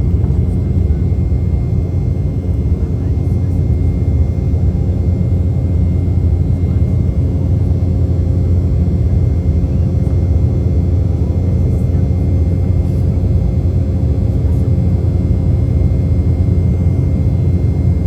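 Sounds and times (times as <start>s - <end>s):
airliner cabin rumble: 0.0s - 18.0s
faint steady whine: 0.0s - 18.0s.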